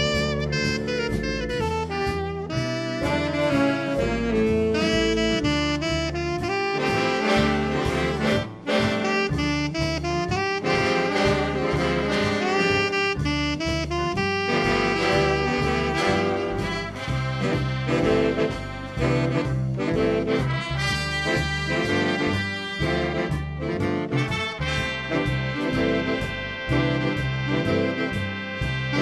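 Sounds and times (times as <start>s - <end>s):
jazz music with saxophone: 0.0s - 29.0s.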